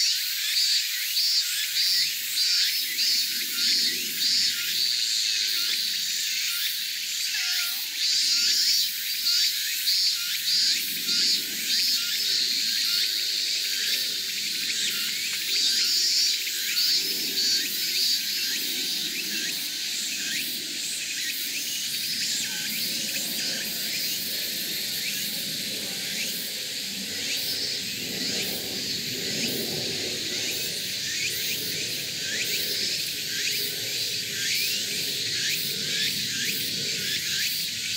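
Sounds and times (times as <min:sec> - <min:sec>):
cicadas shrilling: 0:00.0 - 0:37.9.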